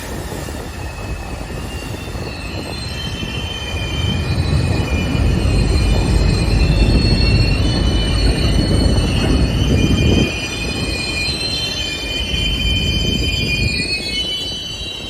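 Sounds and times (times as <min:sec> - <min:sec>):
low train rumble: 0:00.0 - 0:15.0
train brakes screeching: 0:00.0 - 0:15.0.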